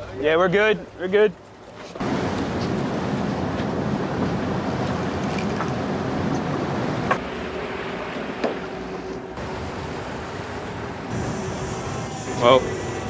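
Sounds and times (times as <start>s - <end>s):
wind: 0.0s - 13.0s
boat engine hum: 0.8s - 13.0s
sea noise: 1.8s - 13.0s.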